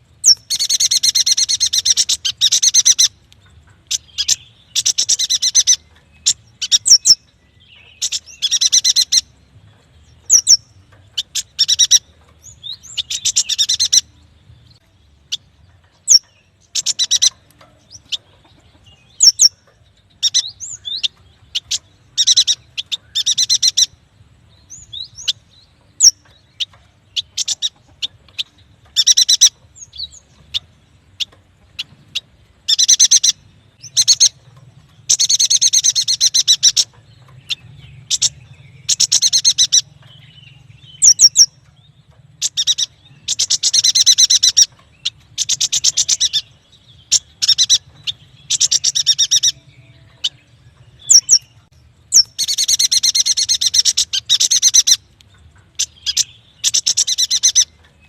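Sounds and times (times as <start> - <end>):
bird chattering notes: 0.2 - 9.4, 10.1 - 12.1, 12.7 - 14.2, 15.3 - 24.0, 24.8 - 57.8
bird sharp high chirps: 0.2 - 9.4, 10.1 - 14.2, 14.8 - 24.0, 24.6 - 58.0.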